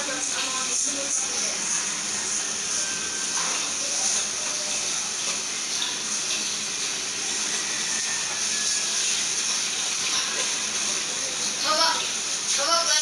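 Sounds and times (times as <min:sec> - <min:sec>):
faint indistinct voices: 0:00.0 - 0:06.2, 0:07.4 - 0:13.0.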